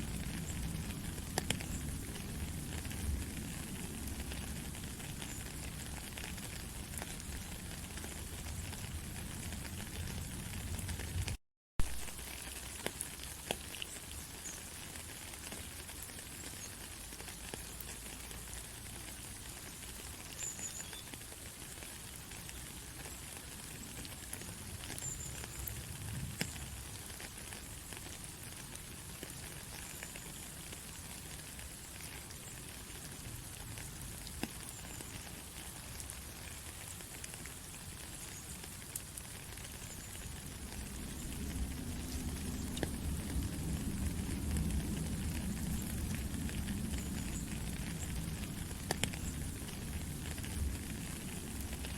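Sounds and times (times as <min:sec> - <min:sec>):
water dripping: 0:00.0 - 0:11.1, 0:11.8 - 0:51.9
steady rain hiss: 0:00.0 - 0:51.9.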